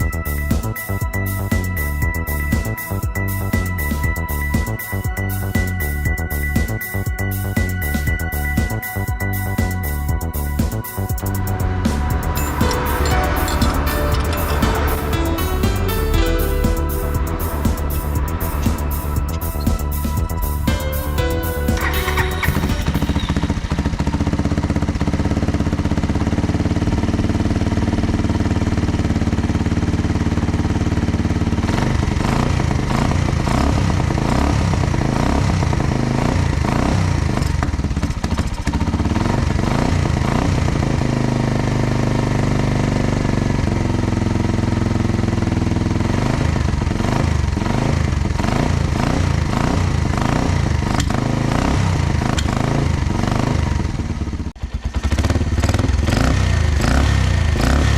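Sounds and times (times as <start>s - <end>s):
motorcycle engine revving: 10.4s - 57.9s.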